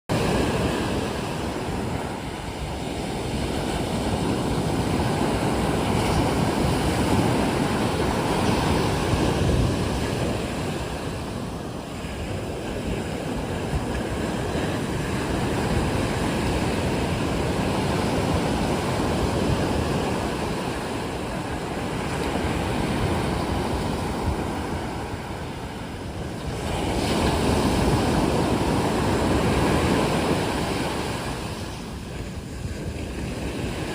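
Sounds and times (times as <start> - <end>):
sea waves surging onto shore: 0.1 - 33.9
wind buffeting microphone: 0.1 - 33.9.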